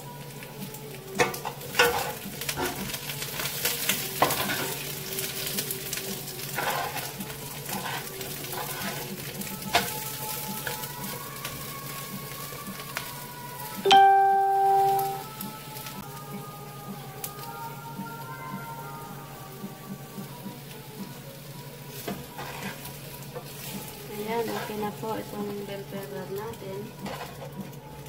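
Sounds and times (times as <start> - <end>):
peppers sizzling in oil: 0.0 - 28.0
spatula stirring in pan: 0.4 - 13.8, 17.5 - 28.0.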